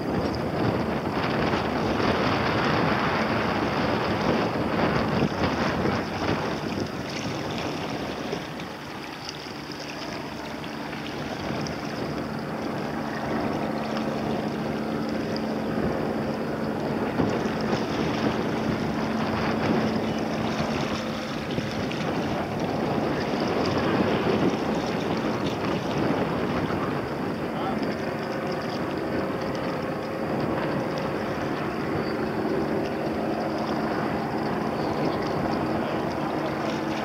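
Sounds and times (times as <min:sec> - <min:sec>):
helicopter rotor drone: 0:00.0 - 0:37.0
wind noise on microphone: 0:00.0 - 0:37.0.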